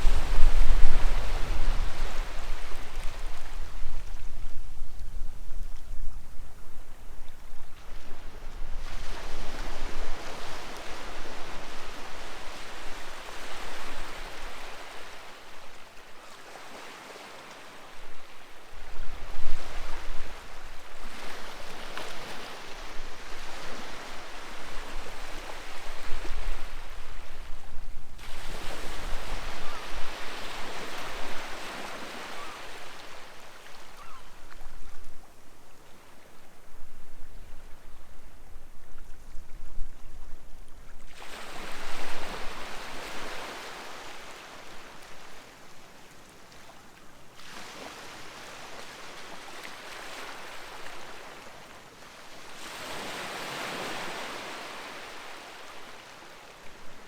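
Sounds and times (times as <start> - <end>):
sea waves breaking on shore: 0.0 - 5.0, 7.7 - 36.7, 41.0 - 57.0.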